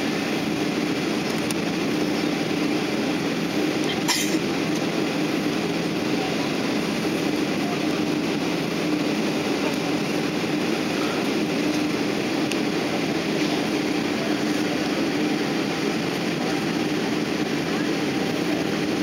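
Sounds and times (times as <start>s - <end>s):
jet engine noise in cabin: 0.0s - 19.0s.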